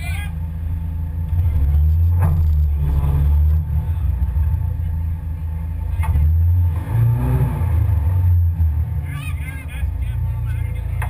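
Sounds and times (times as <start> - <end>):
off-road vehicle engine rumble: 0.0 - 11.0.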